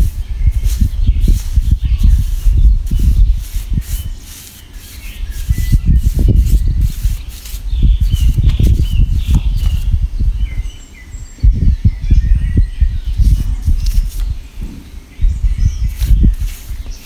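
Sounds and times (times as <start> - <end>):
faint bird chirps: 0.0 - 17.0
wind buffeting microphone: 0.0 - 17.0.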